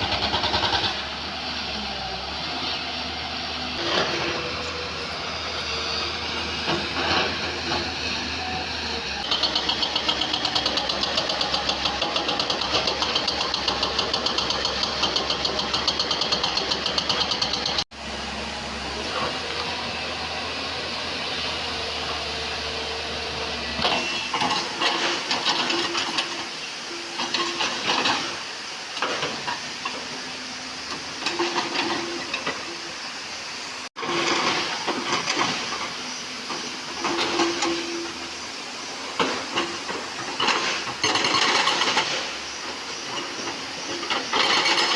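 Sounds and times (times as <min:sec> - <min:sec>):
excavator diesel engine working: 0:00.0 - 0:44.9.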